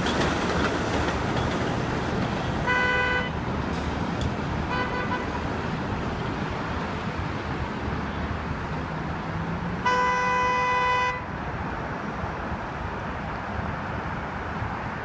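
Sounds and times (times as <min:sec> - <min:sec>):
heavy street traffic: 0:00.0 - 0:15.0.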